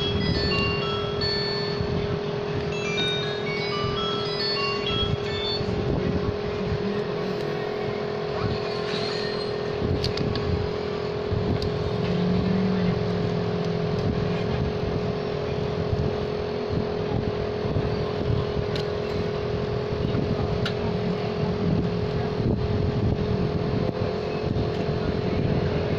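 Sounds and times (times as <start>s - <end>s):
mechanical hum: 0.0s - 25.9s
rumbling background noise: 0.0s - 25.9s.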